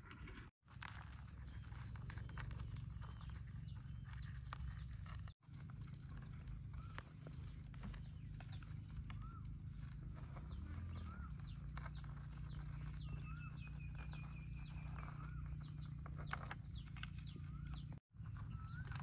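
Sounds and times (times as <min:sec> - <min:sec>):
soft bird chirp: 0:01.1 - 0:05.4, 0:06.6 - 0:19.0.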